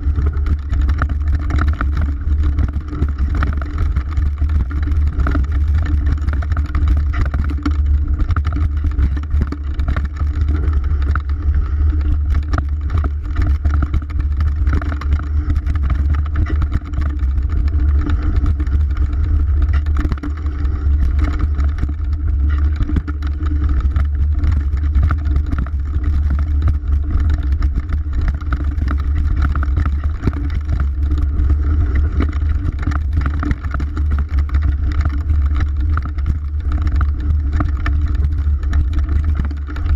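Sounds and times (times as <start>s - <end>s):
bike rattling over bumpy ground: 0.0s - 39.9s
low rumble: 0.0s - 39.9s.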